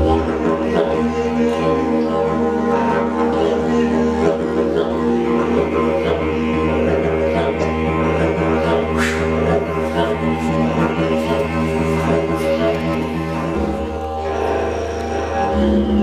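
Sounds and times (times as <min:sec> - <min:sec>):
didgeridoo drone: 0:00.0 - 0:16.0.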